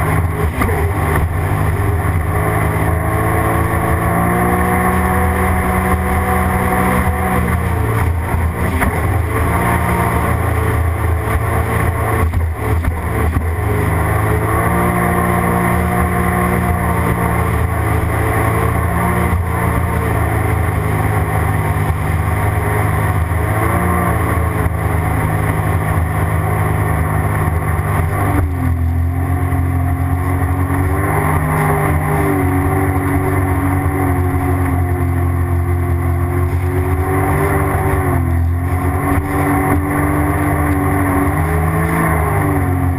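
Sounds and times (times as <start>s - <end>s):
jet ski engine: 0.0s - 42.9s.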